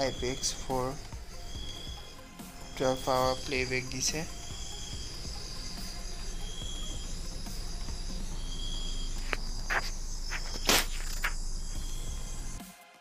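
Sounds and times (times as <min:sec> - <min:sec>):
insects chirping: 0:00.0 - 0:12.6.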